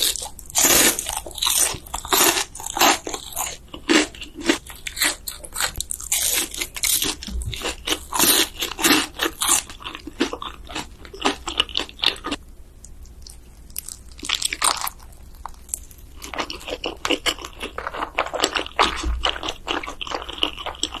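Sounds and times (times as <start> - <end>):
crunchy bites and chewing: 0.0 - 12.4, 13.1 - 21.0.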